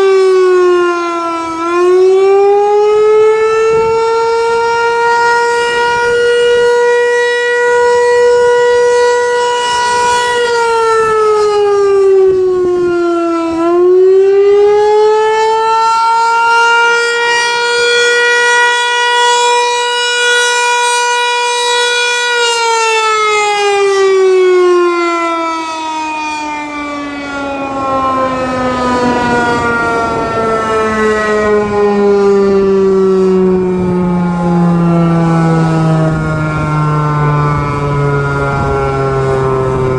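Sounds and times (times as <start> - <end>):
warning siren rising and falling: 0.0 - 39.9.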